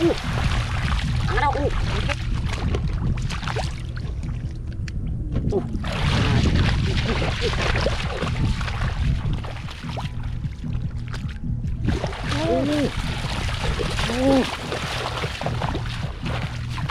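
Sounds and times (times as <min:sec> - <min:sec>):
low drone: 0:00.0 - 0:16.9
water sloshing and splashing: 0:00.0 - 0:16.9.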